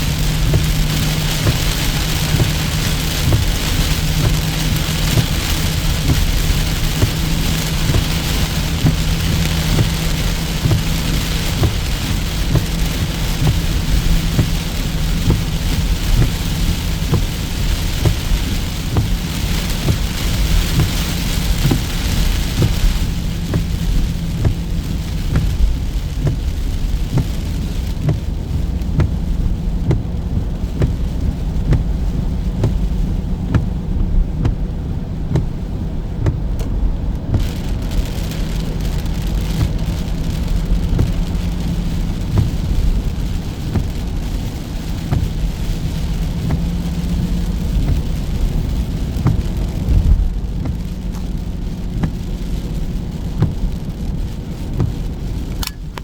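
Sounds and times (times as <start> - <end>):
deep steady rumble: 0.0 - 56.0
heavy rain falling: 0.0 - 56.0
raindrops striking a surface: 0.0 - 56.0.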